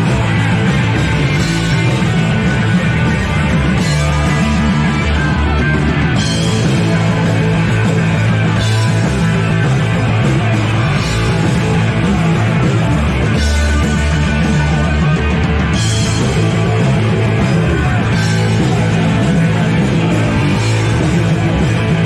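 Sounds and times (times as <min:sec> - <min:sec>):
punk rock band playing live: 0:00.0 - 0:22.0.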